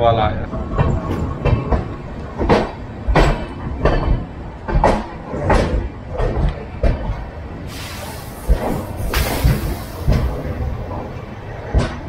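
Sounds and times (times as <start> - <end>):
train wheels rumbling: 0.0 - 12.0
wheels clacking over rail joints: 0.5 - 12.0.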